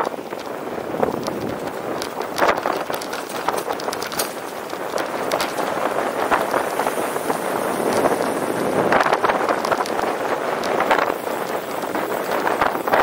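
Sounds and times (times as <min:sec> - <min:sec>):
bicycle clicks and knocks: 0:00.0 - 0:13.0
traffic: 0:00.0 - 0:13.0
wind rushing: 0:00.0 - 0:13.0.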